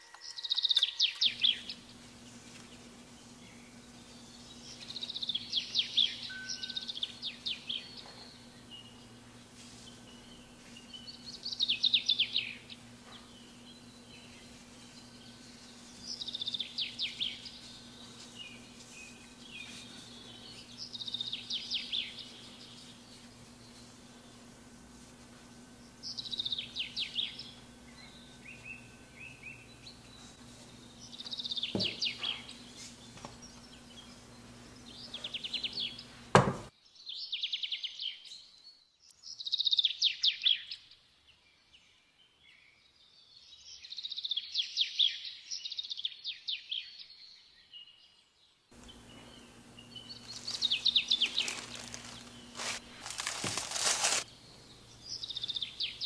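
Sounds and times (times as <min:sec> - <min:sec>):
songbird chirping and trilling: 0:00.0 - 0:56.0.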